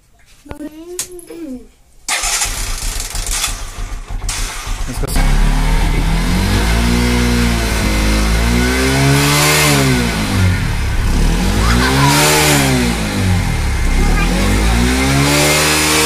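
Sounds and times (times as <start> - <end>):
motorcycle engine revving: 2.1 - 16.0.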